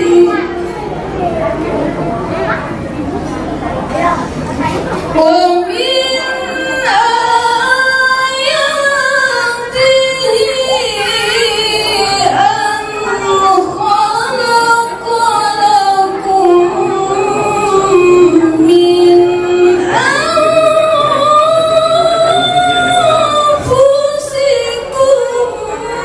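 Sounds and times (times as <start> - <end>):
woman singing long held notes: 5.2 - 26.0.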